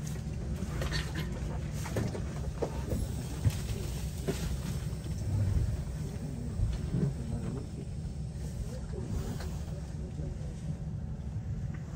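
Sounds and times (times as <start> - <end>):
bus engine rumble: 0.0 - 11.9.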